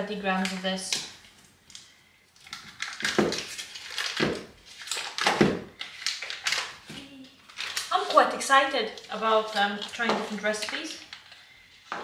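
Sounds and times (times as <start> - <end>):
butter wrapper crinkling: 0.4 - 11.5.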